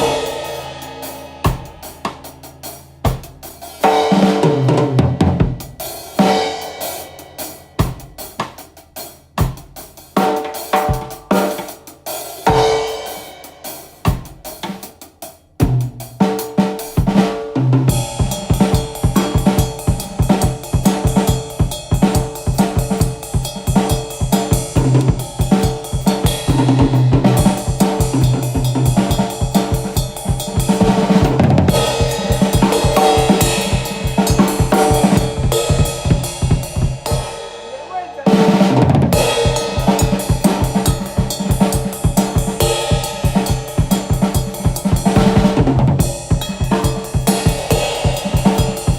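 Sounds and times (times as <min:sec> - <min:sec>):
drum kit playing a beat: 0:00.0 - 0:48.9.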